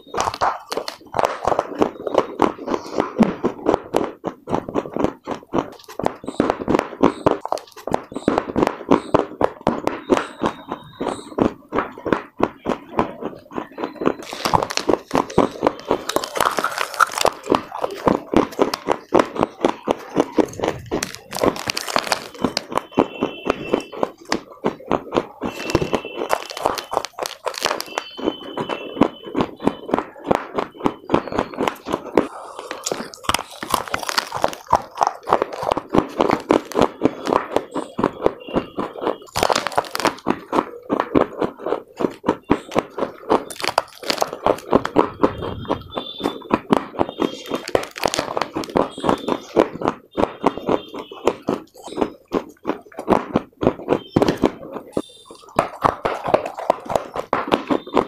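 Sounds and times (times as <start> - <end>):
crunching and chewing of clay: 0.0 - 58.0.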